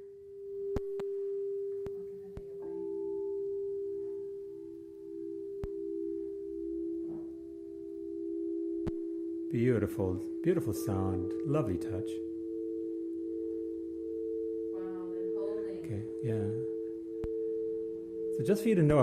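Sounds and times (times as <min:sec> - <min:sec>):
crystal singing bowls ringing: 0:00.0 - 0:19.0.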